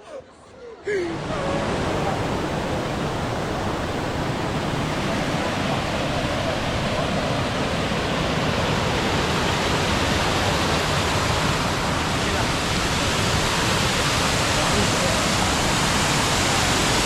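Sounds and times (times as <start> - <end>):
waterfall rushing: 0.9 - 17.0.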